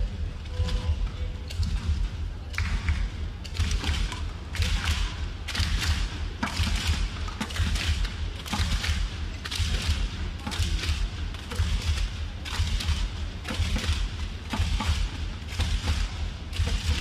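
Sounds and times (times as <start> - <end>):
low hall rumble: 0.0 - 17.0
rackets hitting shuttlecock: 1.5 - 17.0.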